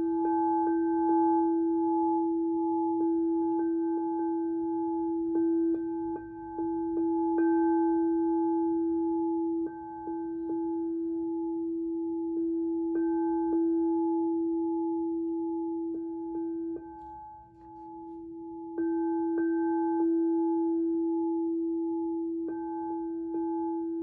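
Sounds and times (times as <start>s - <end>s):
low singing bowl tone: 0.0s - 24.0s.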